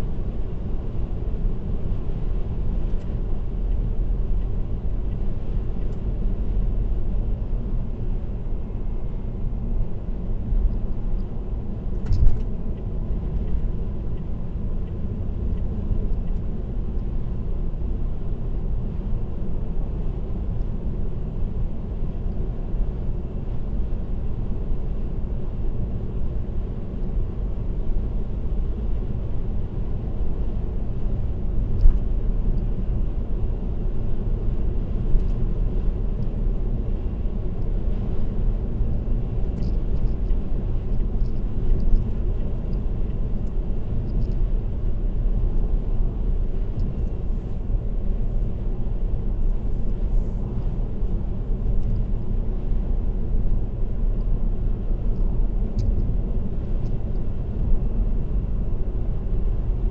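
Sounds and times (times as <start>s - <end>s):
car road and tyre noise: 0.0s - 59.9s.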